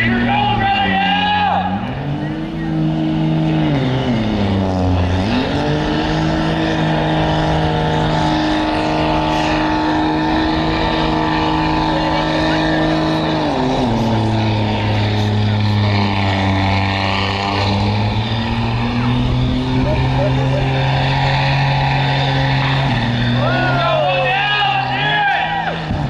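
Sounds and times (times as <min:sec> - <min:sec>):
tires spinning on pavement: 0:00.0 - 0:26.0
truck engine revving high: 0:00.0 - 0:26.0.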